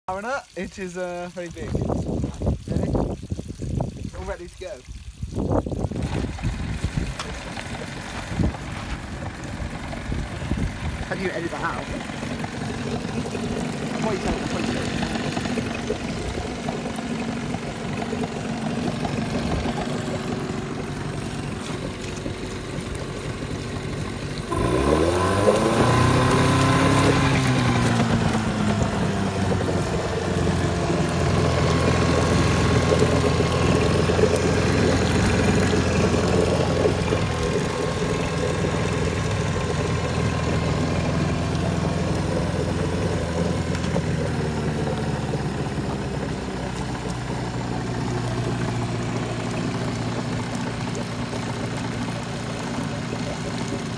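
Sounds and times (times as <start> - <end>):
outboard motor running: 0.1 - 53.9.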